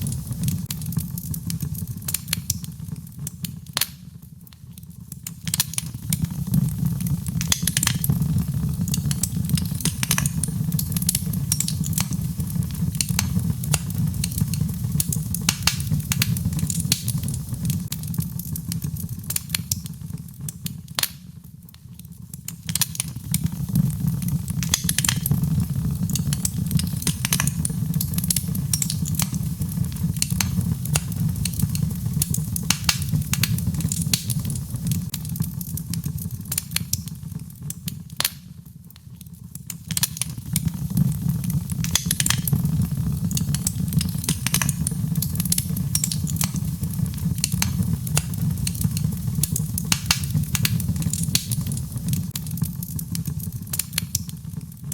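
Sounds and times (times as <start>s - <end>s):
fire crackling and popping: 0.0s - 54.9s
low fire rumble: 0.0s - 54.9s.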